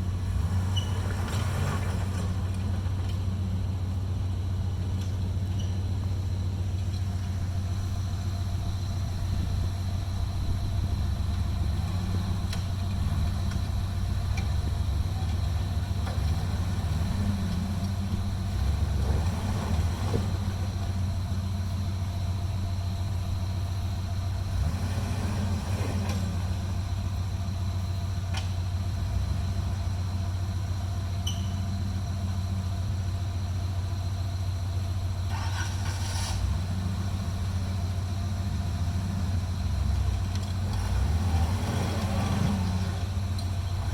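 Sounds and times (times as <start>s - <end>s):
car engine running: 0.0s - 43.9s.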